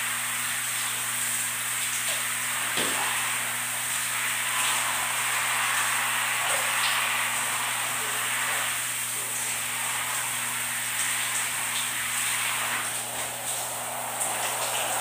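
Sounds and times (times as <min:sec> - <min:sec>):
shower spray splashing: 0:00.0 - 0:15.0
steady low hum: 0:02.0 - 0:15.0.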